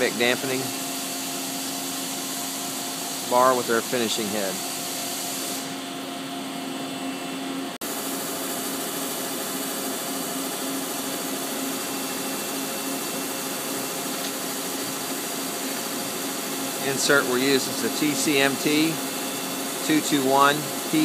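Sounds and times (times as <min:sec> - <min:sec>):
boring machine humming: 0:00.0 - 0:21.0.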